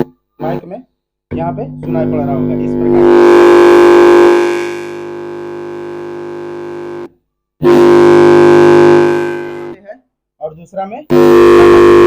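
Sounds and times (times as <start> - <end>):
loudspeaker rasping hum: 0.0 - 6.8, 7.6 - 9.8, 11.0 - 12.0.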